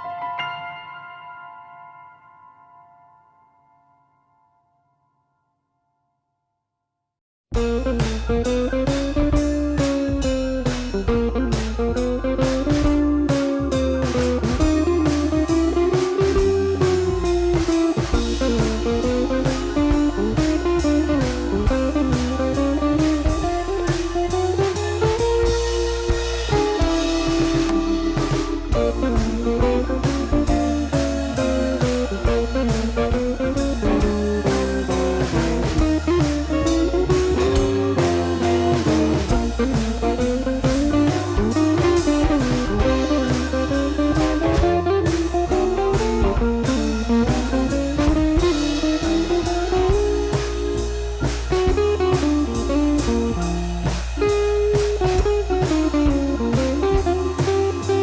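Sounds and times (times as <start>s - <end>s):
blues guitar: 7.5s - 58.0s
drum kit beat: 7.5s - 58.0s.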